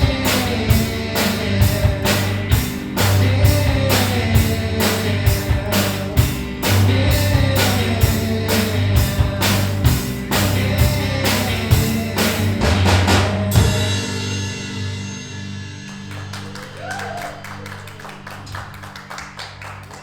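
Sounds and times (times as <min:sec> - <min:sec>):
live band playing: 0:00.0 - 0:19.2.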